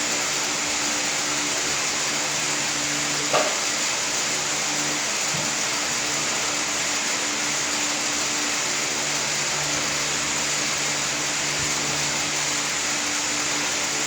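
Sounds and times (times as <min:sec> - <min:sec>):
fan rushing hiss: 0:00.0 - 0:14.0.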